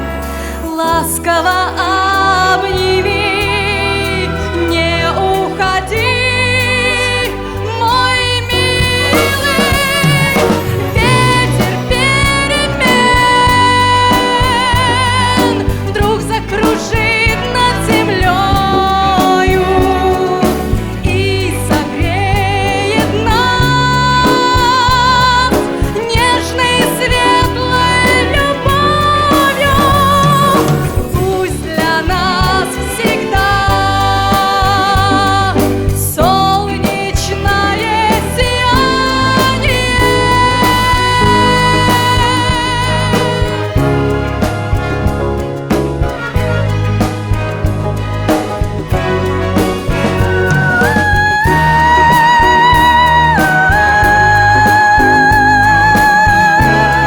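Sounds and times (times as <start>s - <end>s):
person singing with vibrato: 0.0s - 44.4s, 49.9s - 57.0s
instrumental accompaniment with bass: 0.0s - 57.0s.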